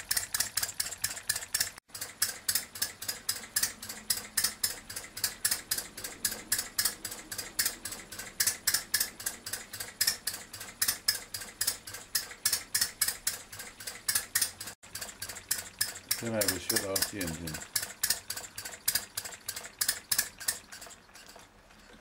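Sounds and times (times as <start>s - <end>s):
model engine running: 0.0s - 21.4s
fast mechanical clicking: 0.0s - 22.0s.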